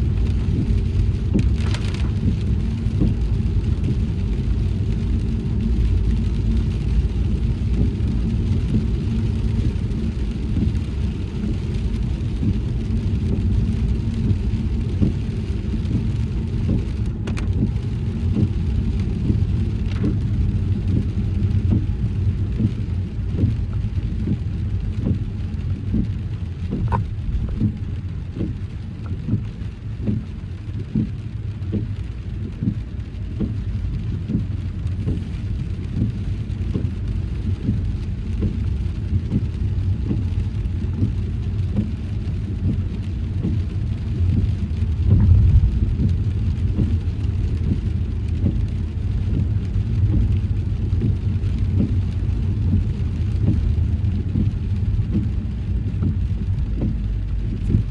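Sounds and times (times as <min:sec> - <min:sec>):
raindrops ticking on car: 0:00.0 - 0:57.9
tyres and engine on wet road: 0:00.0 - 0:57.9.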